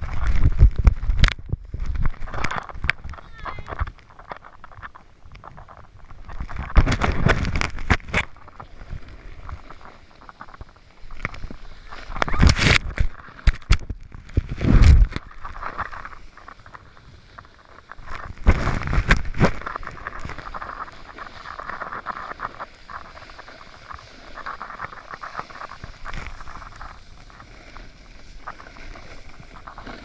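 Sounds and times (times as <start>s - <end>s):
snowboard scraping over snow: 0.0s - 13.4s, 14.1s - 30.0s
wind gusts on microphone: 0.0s - 30.0s.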